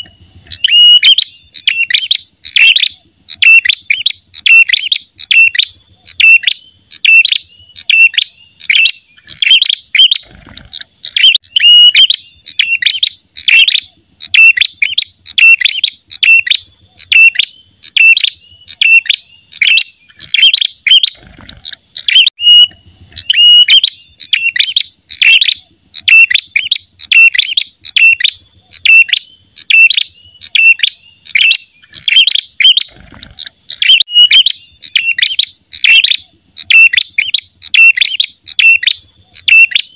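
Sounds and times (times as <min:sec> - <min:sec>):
bird fighting call: 0:00.0 - 0:39.9.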